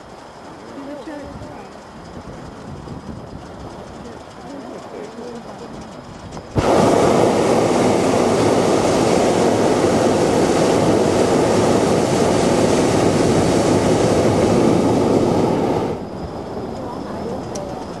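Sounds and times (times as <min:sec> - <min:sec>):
propane burner rushing blast: 0:00.0 - 0:18.0.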